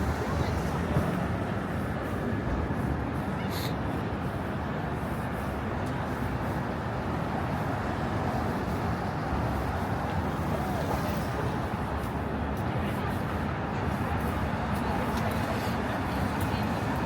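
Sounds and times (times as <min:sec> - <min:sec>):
traffic rumble of passing cars: 0:00.0 - 0:17.0.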